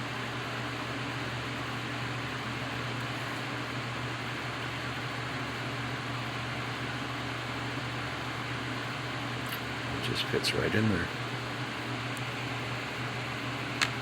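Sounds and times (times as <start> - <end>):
fan humming and hissing: 0.0 - 14.0.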